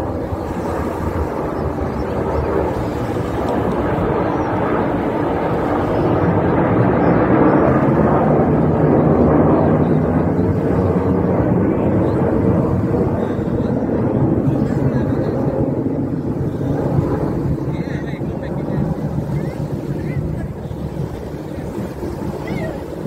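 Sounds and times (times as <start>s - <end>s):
jet engines rumbling overhead: 0.0s - 23.0s.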